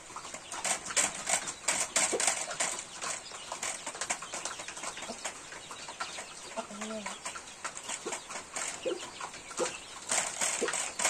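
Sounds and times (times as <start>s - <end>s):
chickens clucking: 0.0s - 11.0s
chickens pecking at grain: 0.0s - 11.0s.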